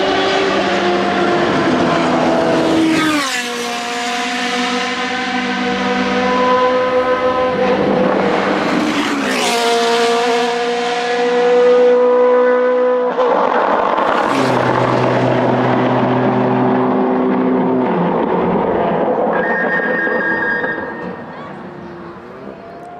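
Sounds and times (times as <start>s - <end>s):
race car engine passing: 0.0s - 22.7s.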